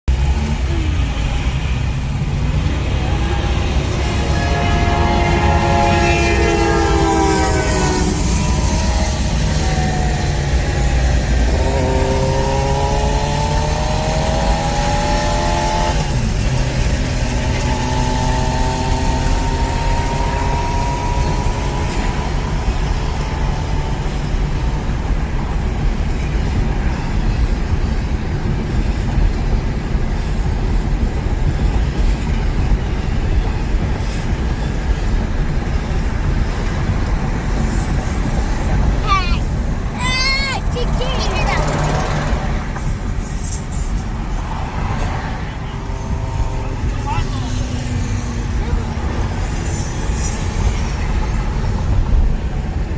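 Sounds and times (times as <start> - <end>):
car engine accelerating: 0.0 - 52.9
road rumble: 0.0 - 52.9.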